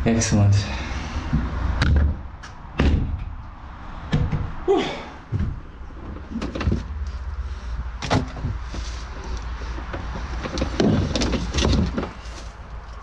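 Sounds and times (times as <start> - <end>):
objects knocking and clunking: 1.2 - 4.7, 5.3 - 13.0.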